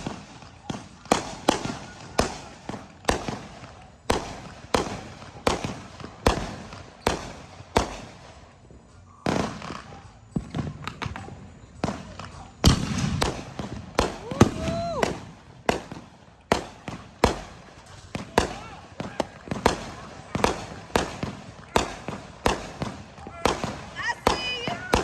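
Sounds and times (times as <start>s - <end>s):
fireworks banging: 0.0s - 25.0s
fireworks crackling: 0.0s - 25.0s.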